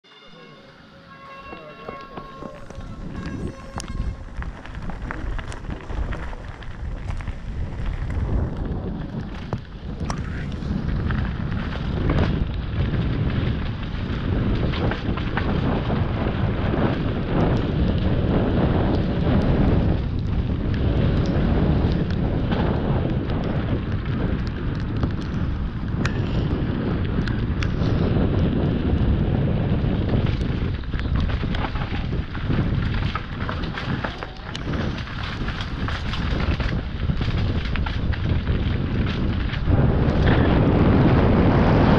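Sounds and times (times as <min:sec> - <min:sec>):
bike tyres crunching on gravel: 0:00.3 - 0:41.9
bike clicking and rattling: 0:01.1 - 0:41.9
wind buffeting microphone: 0:01.3 - 0:41.9.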